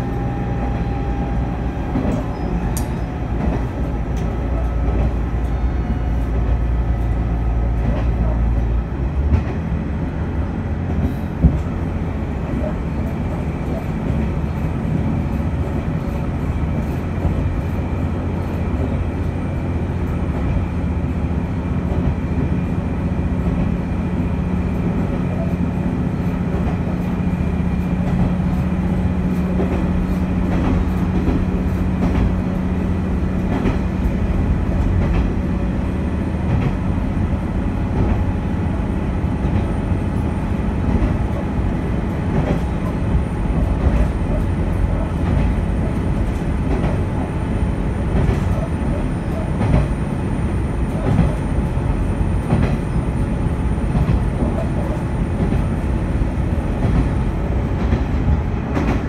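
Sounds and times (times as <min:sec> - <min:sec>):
steady engine hum: 0:00.0 - 0:59.0
wheels rumbling on rail: 0:00.0 - 0:59.0.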